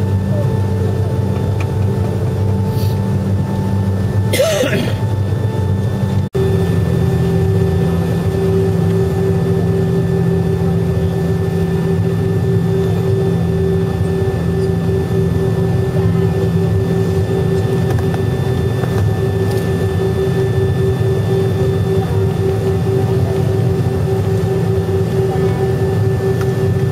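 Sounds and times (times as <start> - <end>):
jet engines droning in cabin: 0.0 - 26.9.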